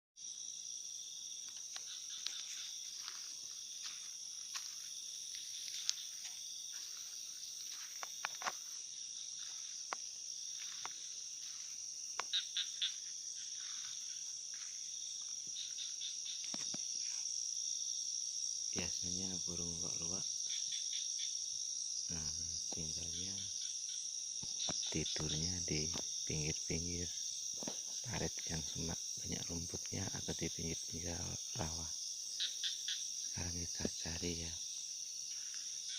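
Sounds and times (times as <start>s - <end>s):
crickets and insects trilling: 0.2s - 35.9s.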